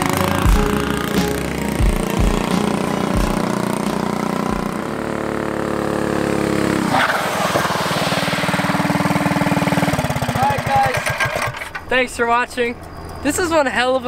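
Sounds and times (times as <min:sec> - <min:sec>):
go kart engine running: 0:00.0 - 0:11.9.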